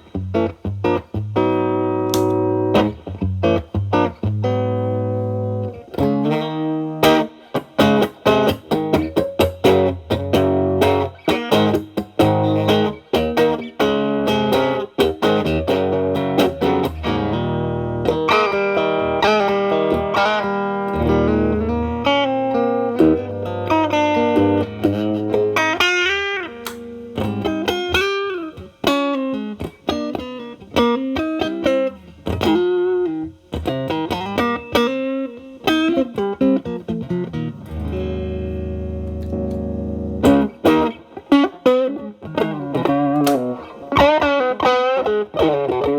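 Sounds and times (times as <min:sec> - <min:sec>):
distorted electric guitar: 0:00.0 - 0:45.9.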